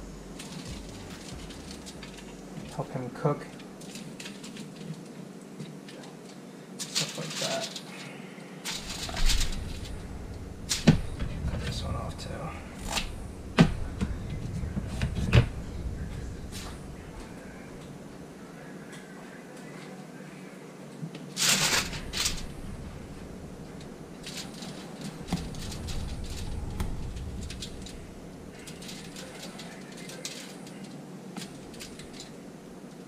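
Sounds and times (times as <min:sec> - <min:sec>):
aluminium foil crinkling: 0:00.2 - 0:18.0, 0:21.4 - 0:33.0.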